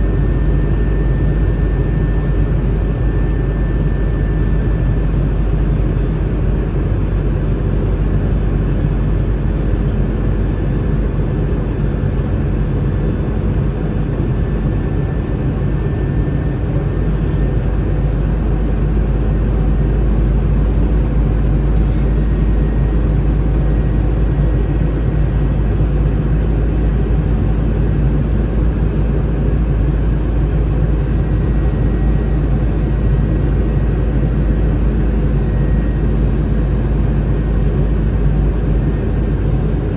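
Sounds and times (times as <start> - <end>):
jet engine cabin roar: 0.0 - 39.9.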